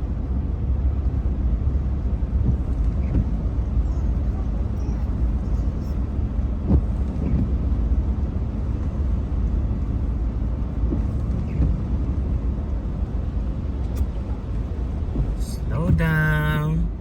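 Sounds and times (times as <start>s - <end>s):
car driving rumble inside cabin: 0.0s - 17.0s.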